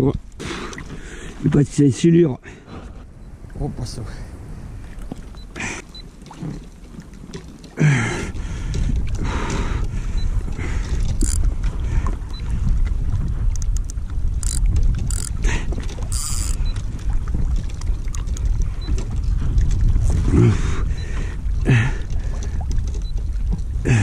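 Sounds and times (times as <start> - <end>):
wind against the microphone: 0.0 - 6.4, 8.0 - 24.0
water rumbling: 0.0 - 24.0.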